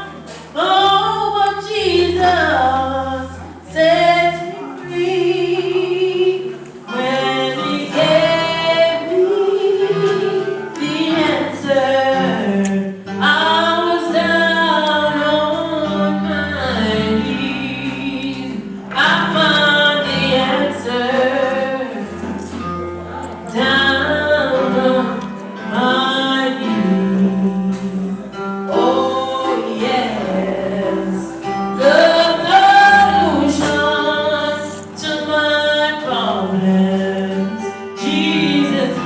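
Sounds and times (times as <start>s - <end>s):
woman singing: 0.0s - 22.6s, 23.4s - 39.0s.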